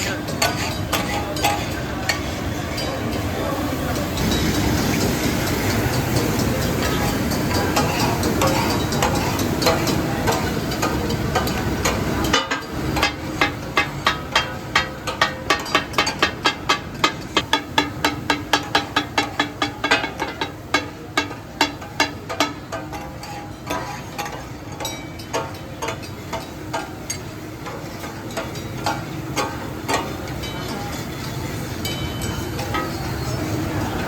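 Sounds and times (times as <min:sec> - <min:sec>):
spatulas clanging on griddle: 0:00.0 - 0:34.0.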